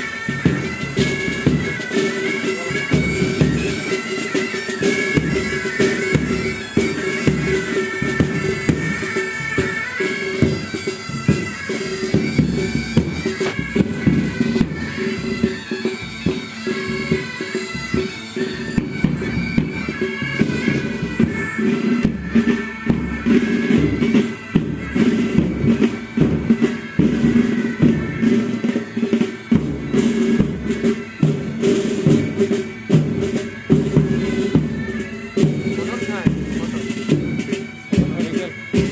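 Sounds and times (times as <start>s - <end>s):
bagpipes with drones: 0.0s - 38.9s
drums beating: 0.0s - 38.9s.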